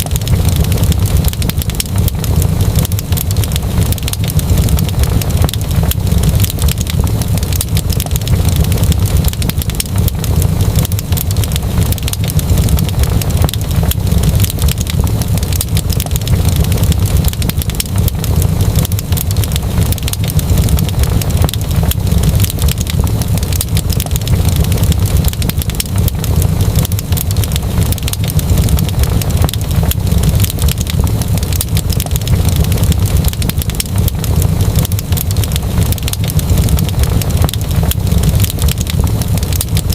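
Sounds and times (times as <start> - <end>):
fire popping and snapping: 0.0 - 39.9
wood fire crackling in fireplace: 0.0 - 39.9.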